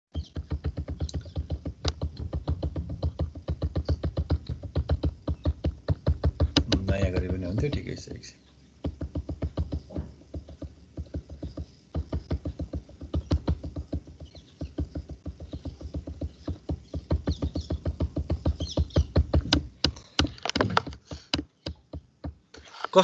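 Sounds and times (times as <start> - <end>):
pen tapping while writing: 0.2 - 8.0, 8.8 - 22.7.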